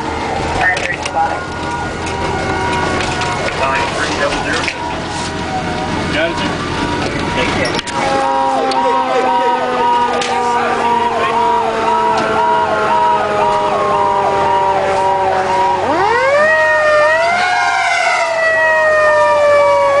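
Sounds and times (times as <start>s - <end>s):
siren wail: 0.0s - 20.0s
siren yelp: 0.0s - 20.0s.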